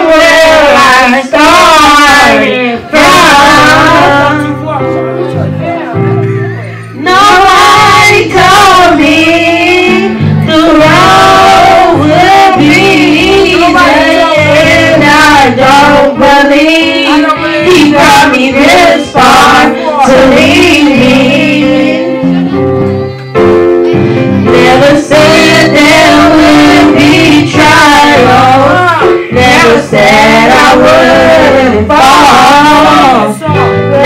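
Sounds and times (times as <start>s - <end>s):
women singing gospel song: 0.0s - 4.6s, 7.0s - 22.4s, 24.4s - 34.0s
guitar bass line: 3.0s - 34.0s.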